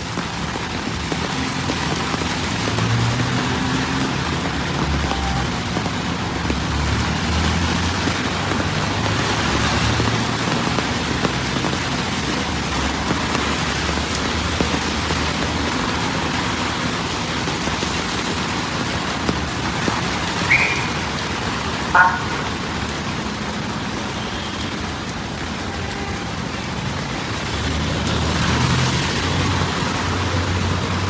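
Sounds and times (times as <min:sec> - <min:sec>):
heavy rain on hard surfaces: 0:00.0 - 0:31.0.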